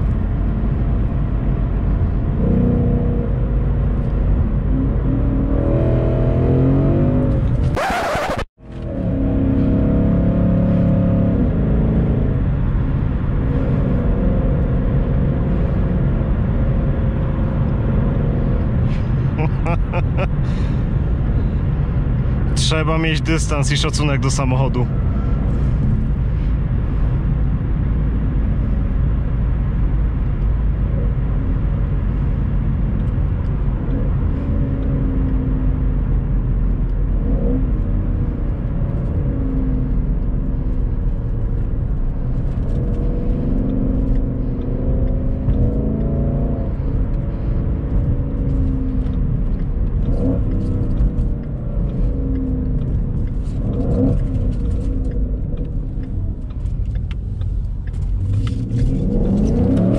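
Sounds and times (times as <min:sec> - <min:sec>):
car engine rumbling from inside: 0:00.0 - 0:59.9.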